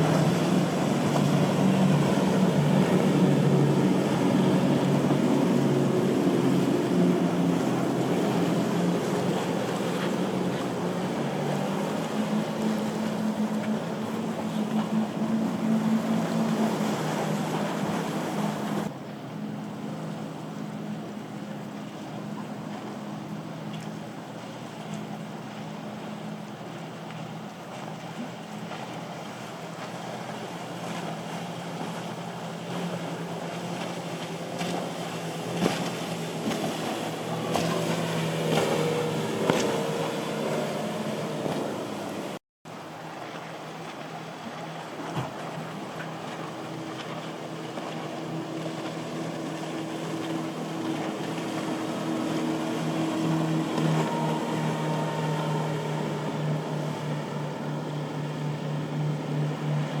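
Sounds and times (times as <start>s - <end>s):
motorboat engines droning: 0.0s - 60.0s
water noise: 0.0s - 60.0s.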